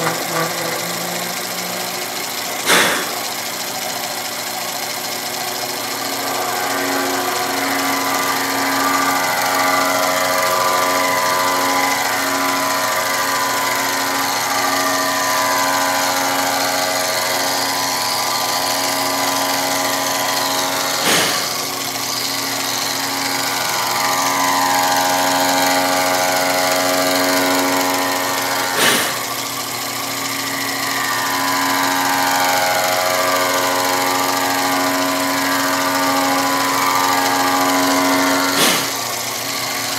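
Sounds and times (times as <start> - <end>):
milling machine whining: 0.0 - 39.9.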